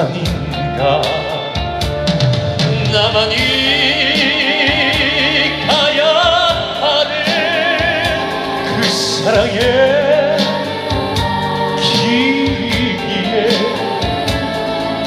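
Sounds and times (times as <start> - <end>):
man singing a slow ballad: 0.0 - 1.8, 2.7 - 10.7, 11.8 - 14.1
amplified backing band: 0.0 - 15.0.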